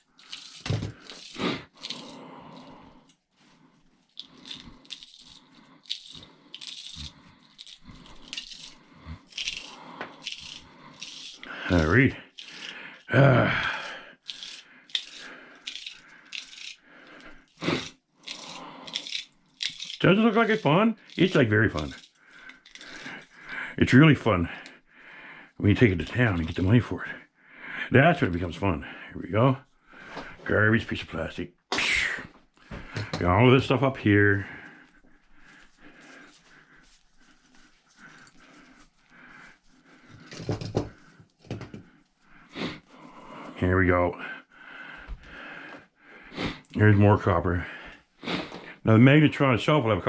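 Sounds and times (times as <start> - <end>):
soft rhythmic breathing: 0.0 - 31.2, 32.0 - 46.9, 47.5 - 48.9.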